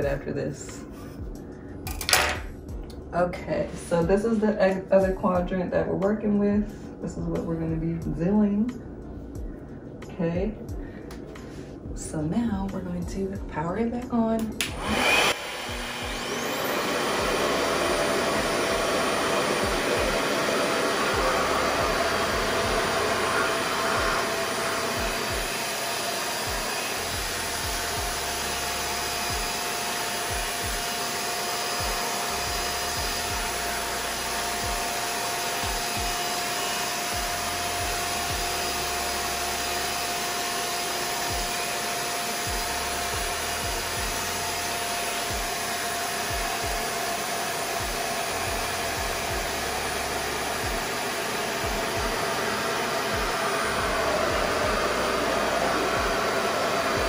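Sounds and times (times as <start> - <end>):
hair dryer running: 0.0 - 8.7, 14.2 - 57.0.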